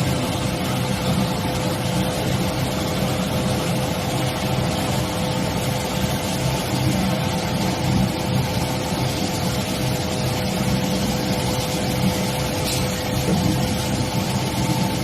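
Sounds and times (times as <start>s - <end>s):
machinery rumble and whine: 0.0s - 15.0s.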